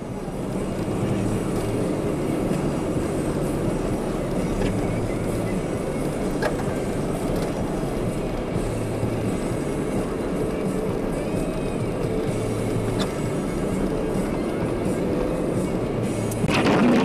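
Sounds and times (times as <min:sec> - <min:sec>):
engine and road noise inside vehicle: 0:00.0 - 0:17.0.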